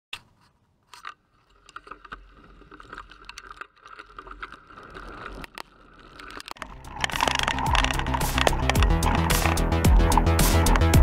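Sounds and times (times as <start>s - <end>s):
bike rattling clicks: 0.1s - 11.0s
bike tyres on dirt: 0.2s - 11.0s.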